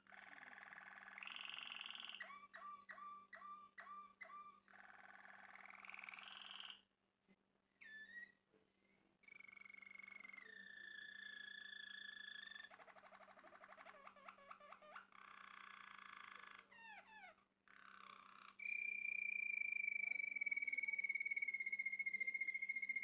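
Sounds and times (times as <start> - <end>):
canary singing: 0.0 - 6.8, 7.8 - 8.4, 9.2 - 23.0.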